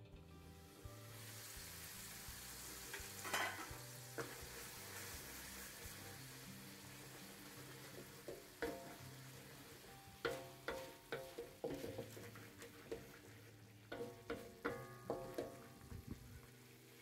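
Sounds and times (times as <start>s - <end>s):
soft plucked music: 0.0s - 17.0s
paste sizzling in a wok: 0.3s - 17.0s
wooden spatula scraping wok: 0.4s - 17.0s.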